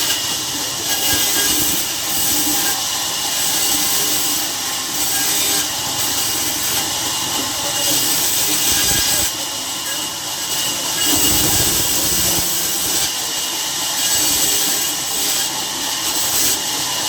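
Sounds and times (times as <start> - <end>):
saw rasping through log: 0.0 - 17.0.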